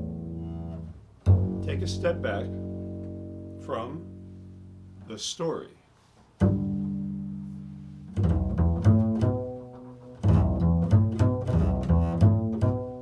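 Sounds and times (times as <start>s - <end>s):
plucked string instrument: 0.0s - 5.2s, 6.4s - 13.0s.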